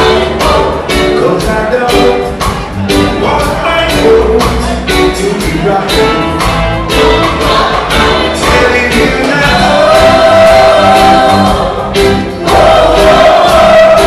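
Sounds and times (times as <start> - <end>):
drums steady beat: 0.0 - 14.0
live reggae band: 0.0 - 14.0
person singing: 0.0 - 14.0.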